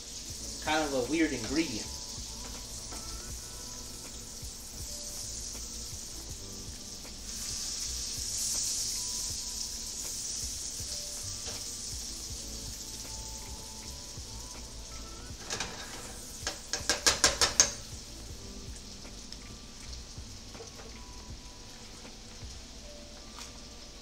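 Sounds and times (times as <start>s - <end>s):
sauce sizzling in a frying pan: 0.0s - 24.0s.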